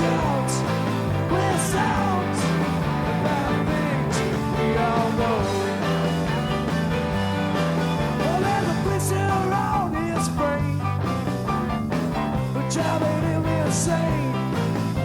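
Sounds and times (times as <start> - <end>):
bass guitar: 0.0 - 15.0.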